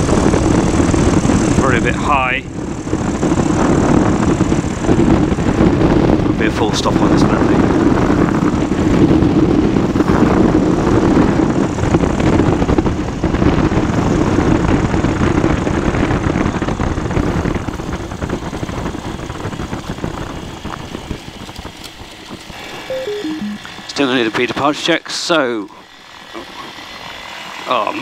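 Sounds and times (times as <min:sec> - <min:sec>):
light aircraft engine and propeller: 0:00.0 - 0:22.9, 0:23.8 - 0:28.0.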